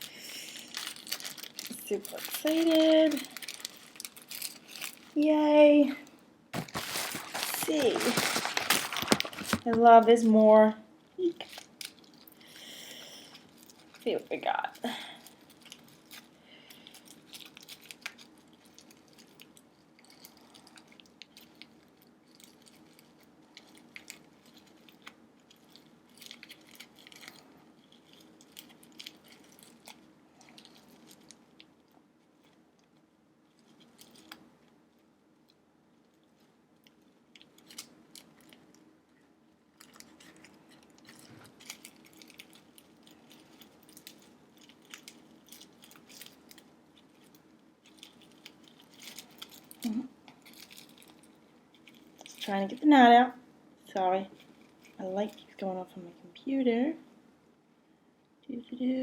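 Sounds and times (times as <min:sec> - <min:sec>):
plastic bag crinkling: 0:00.0 - 0:05.9, 0:06.6 - 0:34.8, 0:36.1 - 0:38.8, 0:39.7 - 0:53.2.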